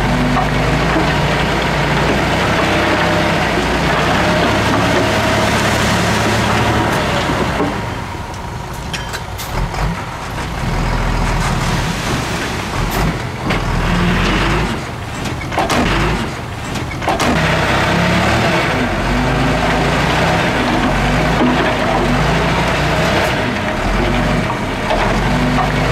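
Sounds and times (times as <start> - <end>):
heavy diesel machinery running: 0.0 - 25.9.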